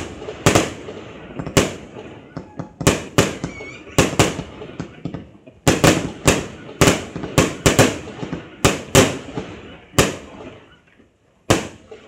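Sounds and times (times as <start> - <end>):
fireworks bangs echoing: 0.0 - 12.0
fireworks crackling: 0.0 - 12.0.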